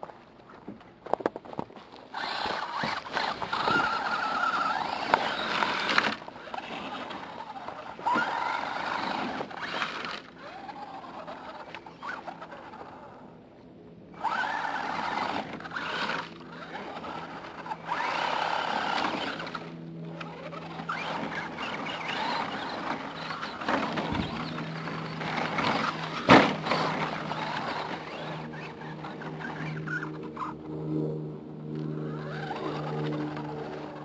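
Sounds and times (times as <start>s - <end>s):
electric motor whining: 2.1s - 13.3s, 14.1s - 34.0s.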